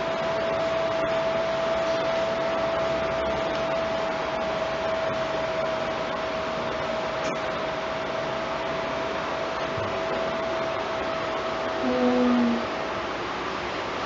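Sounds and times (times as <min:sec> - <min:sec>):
constant mid-pitched tone: 0:00.0 - 0:14.0
steady background hiss: 0:00.0 - 0:14.0.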